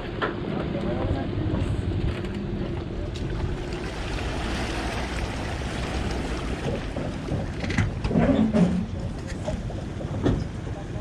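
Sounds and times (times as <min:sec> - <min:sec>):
low engine rumble: 0:00.0 - 0:11.0
wind buffeting microphone: 0:00.0 - 0:11.0.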